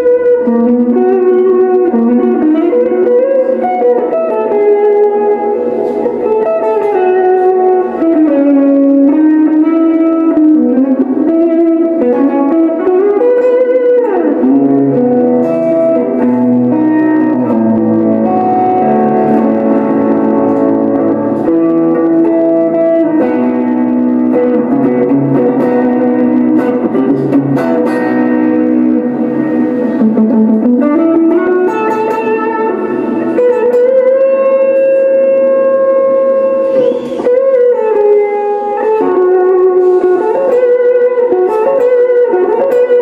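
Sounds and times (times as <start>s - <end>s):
distorted electric guitar melody: 0.0s - 43.0s.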